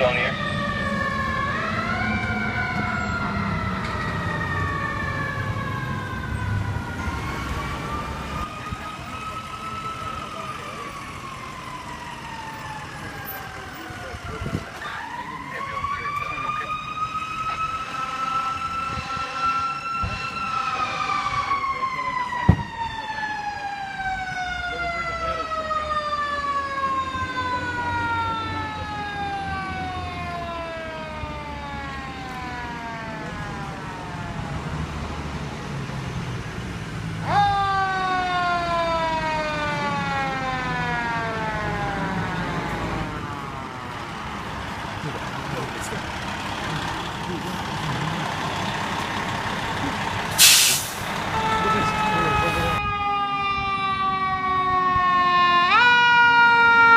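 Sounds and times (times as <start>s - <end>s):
mechanical siren wailing: 0.0s - 35.1s, 37.2s - 45.1s, 51.3s - 56.9s
truck engine rumble: 0.0s - 56.9s.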